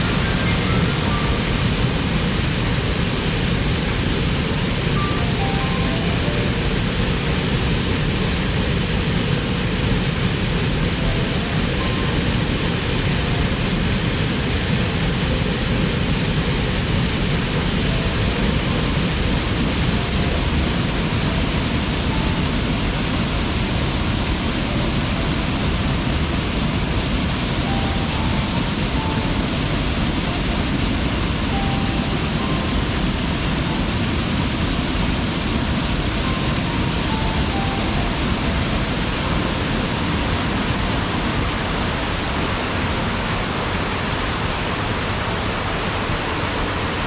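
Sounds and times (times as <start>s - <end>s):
waterfall roaring: 0.0s - 47.0s.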